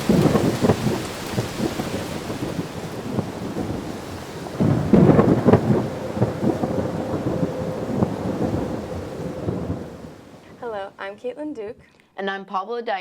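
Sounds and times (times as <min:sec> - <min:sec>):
steady rain: 0:00.0 - 0:10.9
thunder rumbling: 0:00.0 - 0:10.9.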